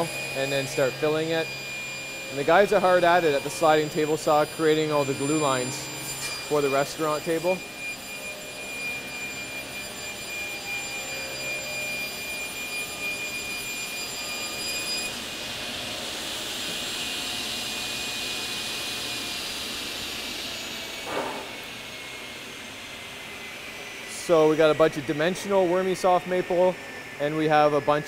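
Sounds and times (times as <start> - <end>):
table saw whining: 0.0 - 28.0.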